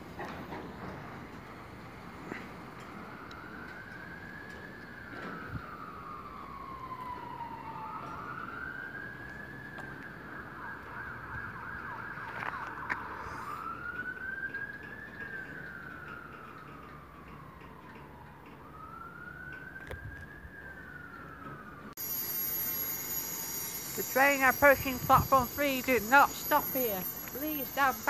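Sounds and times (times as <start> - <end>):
emergency siren wailing: 0.2 - 28.0.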